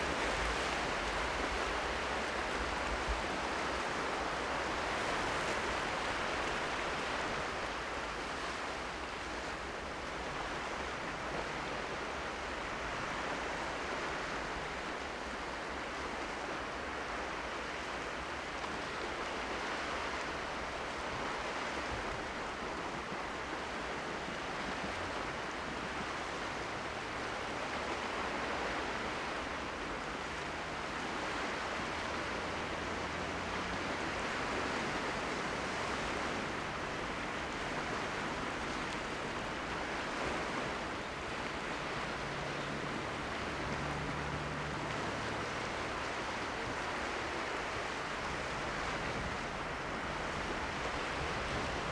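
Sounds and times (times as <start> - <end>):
sea surf washing on shore: 0.0 - 51.9.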